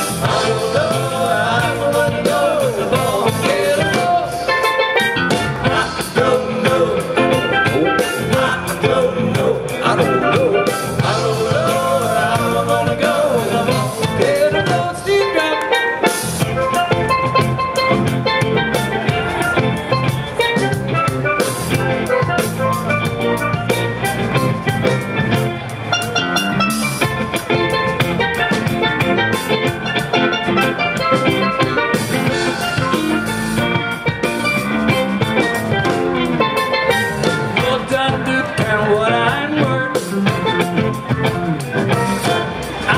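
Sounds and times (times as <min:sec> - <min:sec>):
drum kit: 0:00.0 - 0:42.9
electric bass: 0:00.0 - 0:42.9
electric guitar: 0:00.0 - 0:42.9.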